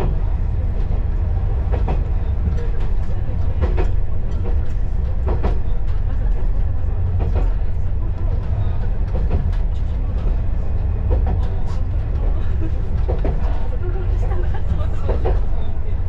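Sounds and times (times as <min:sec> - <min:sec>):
rail joints clacking: 0:00.0 - 0:16.0
railcar engine and wheel rumble: 0:00.0 - 0:16.0.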